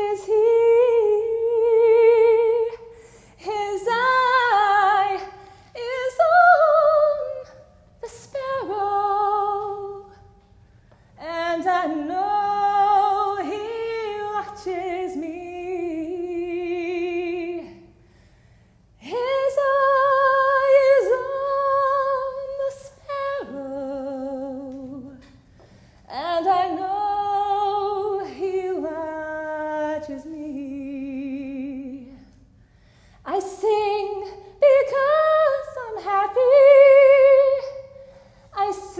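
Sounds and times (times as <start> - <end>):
woman singing with vibrato: 0.0 - 10.4, 11.2 - 18.0, 19.0 - 25.5, 26.1 - 32.6, 33.2 - 38.9.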